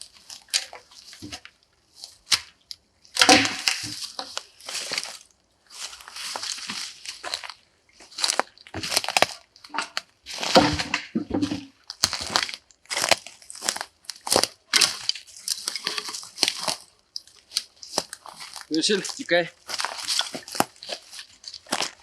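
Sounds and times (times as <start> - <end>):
leaves and twigs crunching: 0.0 - 22.0.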